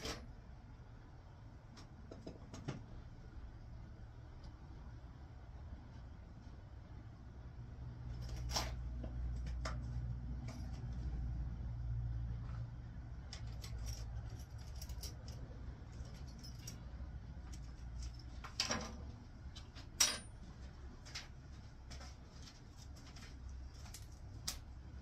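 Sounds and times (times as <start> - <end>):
low steady rumble: 0.1 - 25.0.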